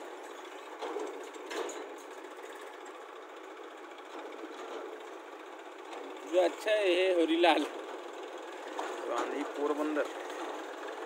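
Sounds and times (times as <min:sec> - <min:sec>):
diesel engines clattering: 0:00.0 - 0:11.0.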